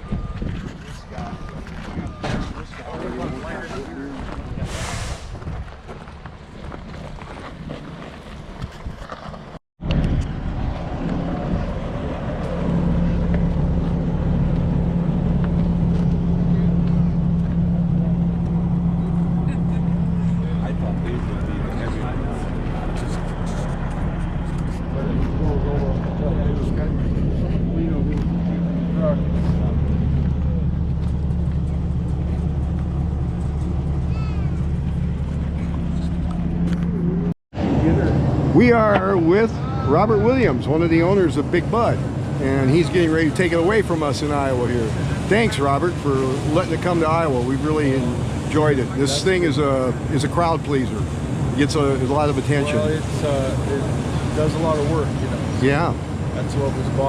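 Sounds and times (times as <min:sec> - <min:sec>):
diesel engine running: 0:00.0 - 0:57.0
outdoor background rumble: 0:00.0 - 0:57.0.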